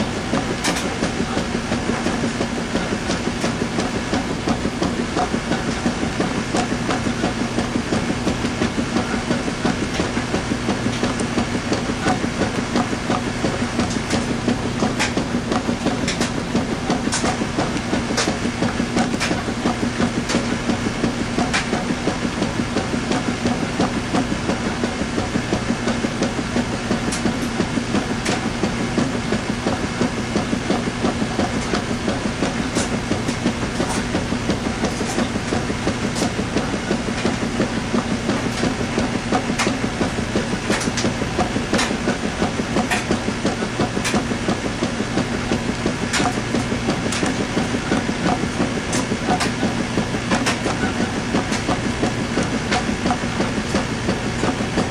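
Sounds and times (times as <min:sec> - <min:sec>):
washing machine churning: 0:00.0 - 0:54.9.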